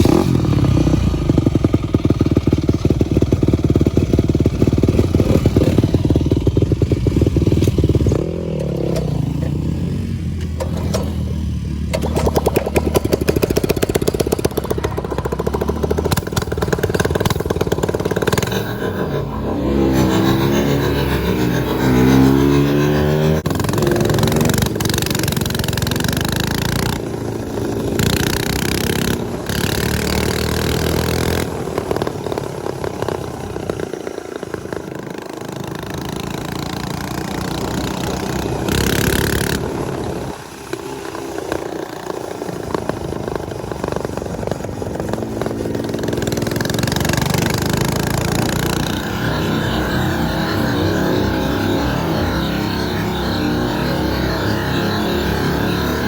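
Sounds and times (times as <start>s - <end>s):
small motorcycle engines revving: 0.0s - 56.0s.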